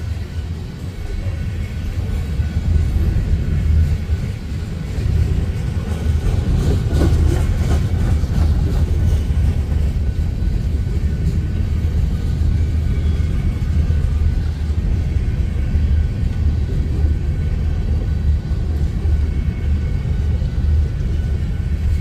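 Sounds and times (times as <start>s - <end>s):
railcar clattering: 0.0s - 22.0s
steel wheels rumbling on track: 0.0s - 22.0s.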